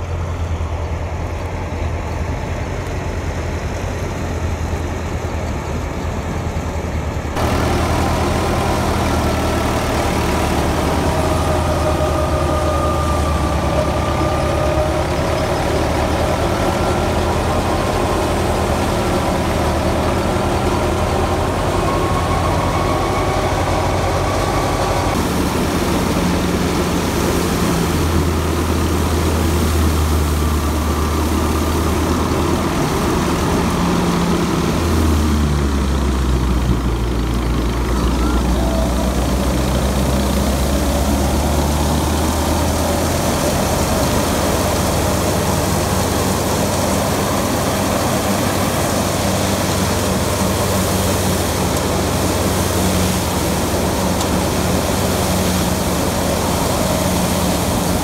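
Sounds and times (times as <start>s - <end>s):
low engine drone: 0.0s - 58.0s
thresher wavering whine: 4.4s - 58.0s.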